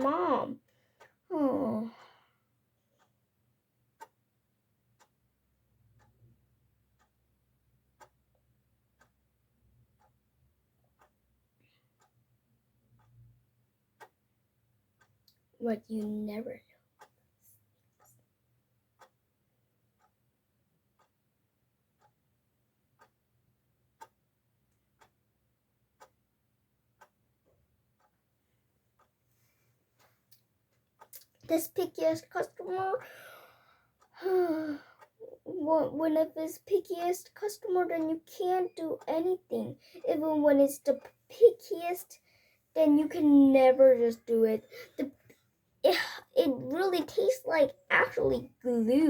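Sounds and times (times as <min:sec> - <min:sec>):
clock ticking: 0:00.0 - 0:17.2, 0:18.0 - 0:49.0.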